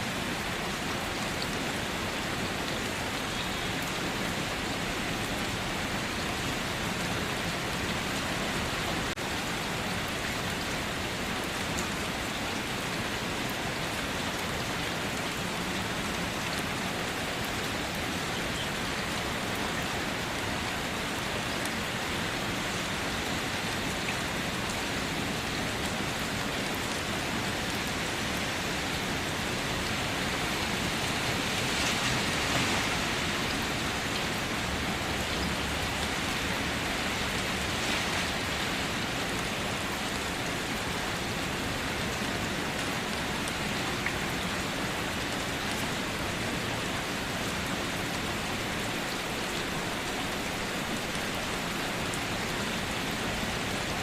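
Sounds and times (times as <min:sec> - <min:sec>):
individual raindrops: 0:00.0 - 0:54.0
rain falling: 0:00.0 - 0:54.0.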